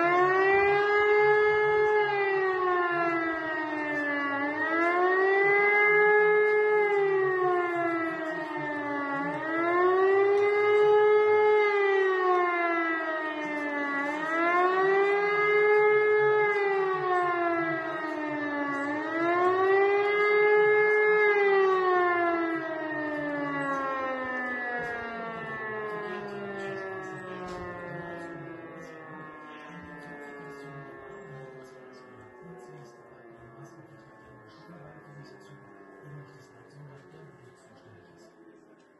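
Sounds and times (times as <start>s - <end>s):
air-raid siren wailing: 0.0s - 38.9s.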